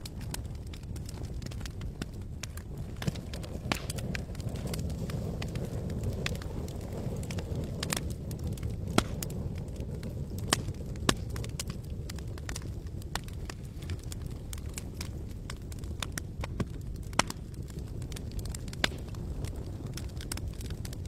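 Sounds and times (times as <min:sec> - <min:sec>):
steady low rumble: 0:00.0 - 0:20.9
campfire crackling: 0:00.0 - 0:21.0.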